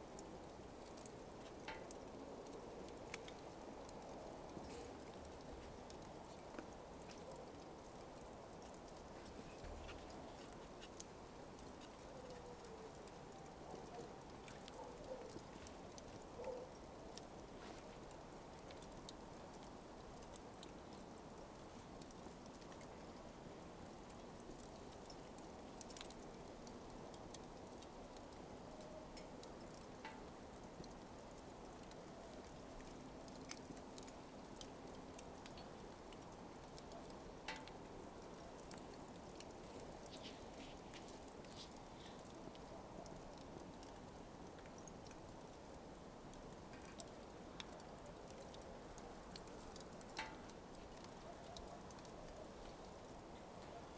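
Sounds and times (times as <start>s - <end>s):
low steady hiss: 0.0s - 53.9s
smouldering coals crackling: 0.0s - 53.9s.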